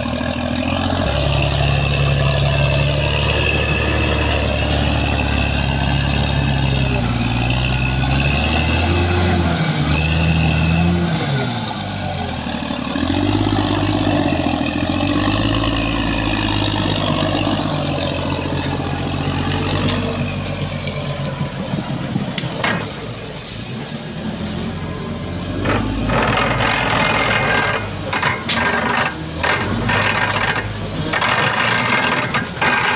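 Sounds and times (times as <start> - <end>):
bulldozer diesel engine: 0.0 - 32.9.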